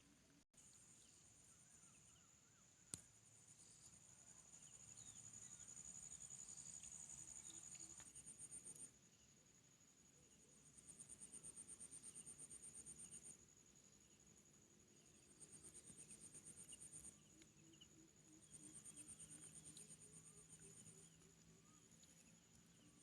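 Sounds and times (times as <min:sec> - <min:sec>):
crickets chirping: 0:00.6 - 0:23.0.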